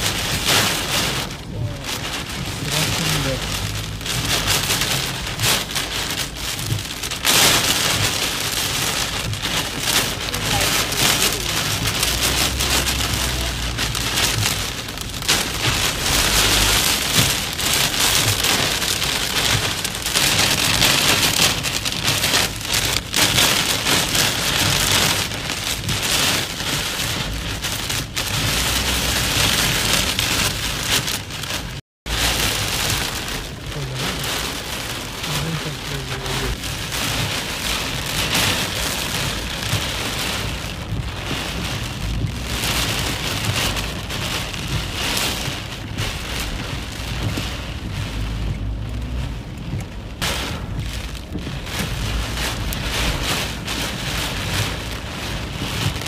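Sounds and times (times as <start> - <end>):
heavy rain on car windshield: 0.0 - 56.0.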